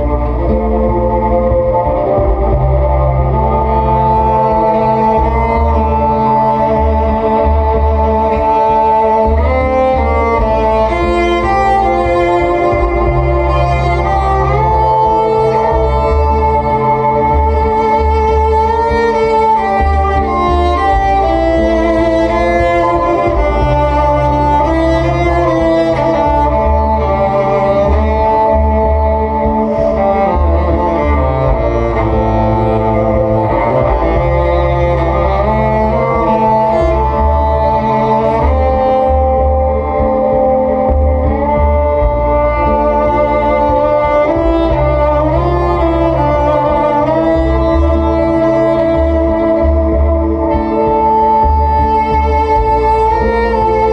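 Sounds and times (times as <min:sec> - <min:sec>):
bowed electric cello melody: 0:00.0 - 0:53.9
looped cello bass line: 0:00.0 - 0:53.9.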